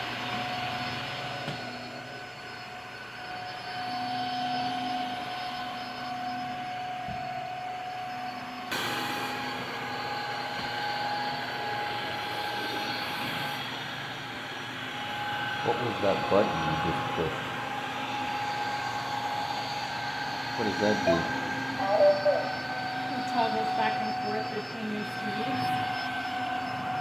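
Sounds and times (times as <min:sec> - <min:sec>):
vacuum motor whine: 0:00.0 - 0:27.0.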